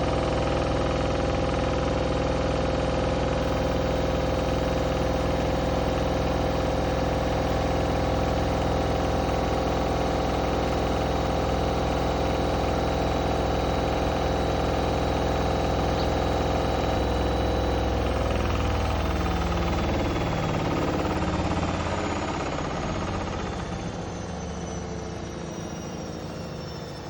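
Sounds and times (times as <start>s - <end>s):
washing machine spinning: 3.4s - 27.0s.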